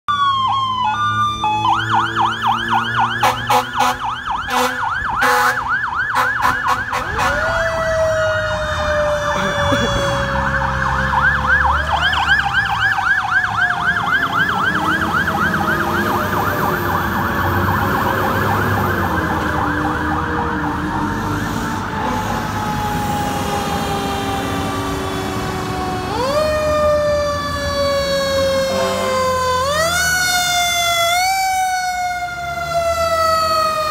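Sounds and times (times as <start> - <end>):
electronic yelp siren: 0.1 - 33.9
truck engines rumbling: 0.1 - 33.9
wailing wind-up siren: 0.1 - 33.9.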